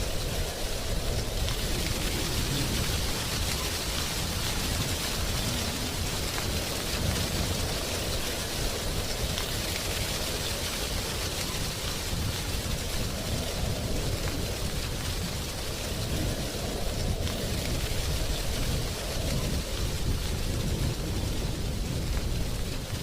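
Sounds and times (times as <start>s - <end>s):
leaves rustling in wind: 0.0s - 23.0s
low wind rumble: 0.0s - 23.0s.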